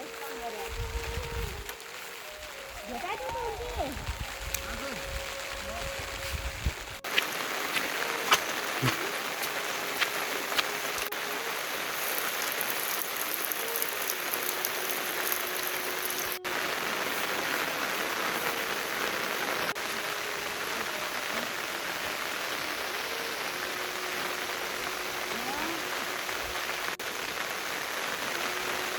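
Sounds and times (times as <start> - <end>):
steady rain hiss: 0.0 - 28.9.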